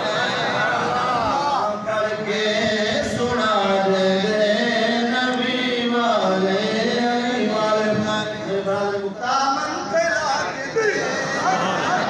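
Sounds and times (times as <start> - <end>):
man chanting into microphone: 0.9 - 11.4.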